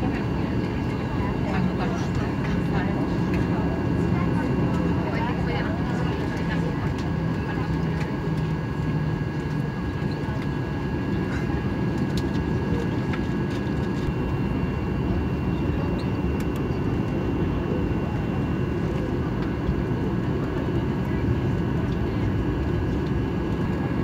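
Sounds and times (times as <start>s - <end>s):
high engine whine: 0.0s - 24.0s
jet engine cabin rumble: 0.0s - 24.0s.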